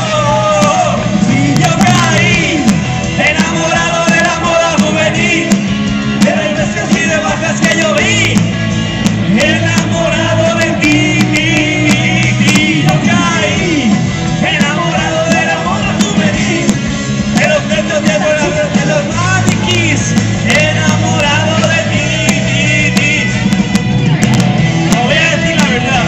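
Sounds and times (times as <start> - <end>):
man singing: 0.0 - 23.6, 24.8 - 26.0
bass guitar: 0.0 - 26.0
drums: 0.0 - 26.0
electric guitars: 0.0 - 26.0.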